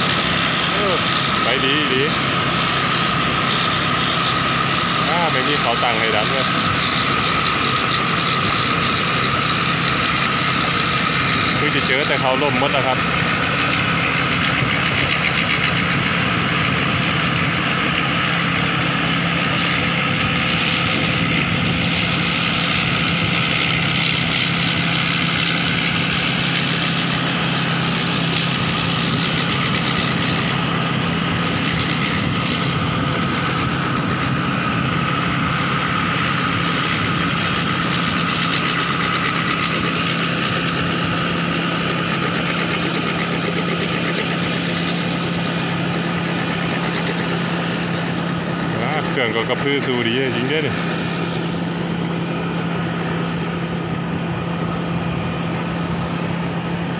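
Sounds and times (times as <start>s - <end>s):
combine harvester droning: 0.0s - 56.9s.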